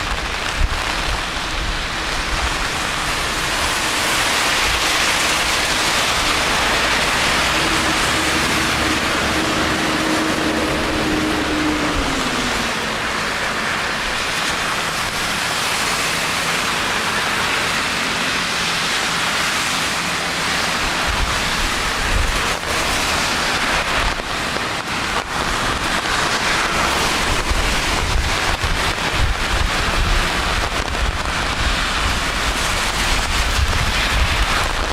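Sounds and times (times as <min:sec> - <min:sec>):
rain falling on street: 0:00.0 - 0:34.9.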